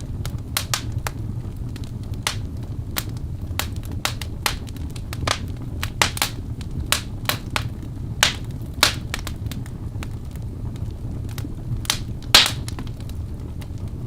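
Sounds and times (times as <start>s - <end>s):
logs burning with crackles: 0.0s - 14.0s.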